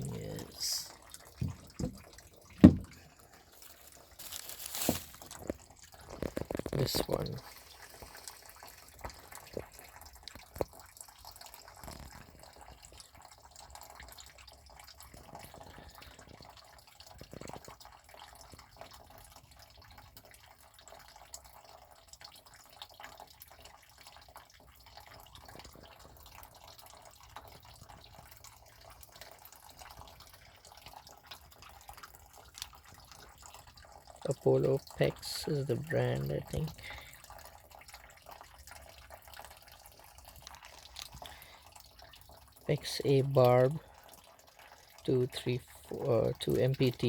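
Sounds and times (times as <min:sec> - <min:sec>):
water dripping and trickling: 0:00.0 - 0:47.0.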